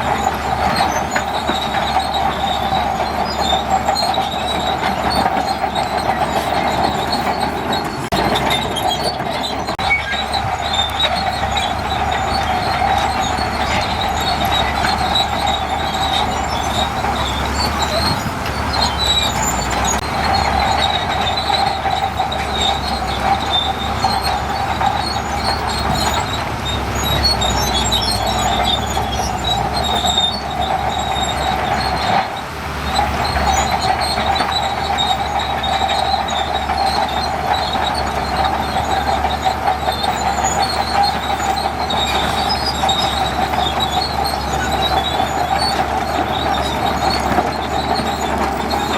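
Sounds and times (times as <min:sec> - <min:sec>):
bulldozer diesel engine: 0:00.0 - 0:48.9
tracks squealing and clattering: 0:00.0 - 0:48.9.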